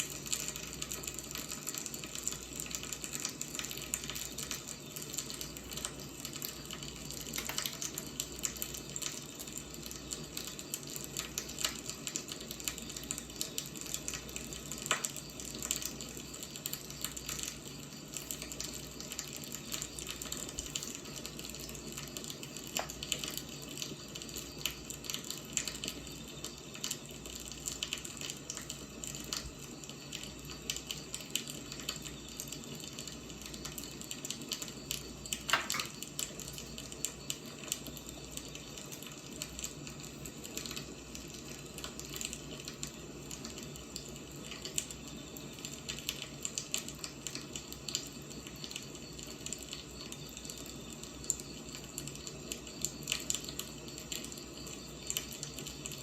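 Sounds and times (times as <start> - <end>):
fire crackles and pops: 0.0 - 56.0
wood fire hissing: 0.0 - 56.0.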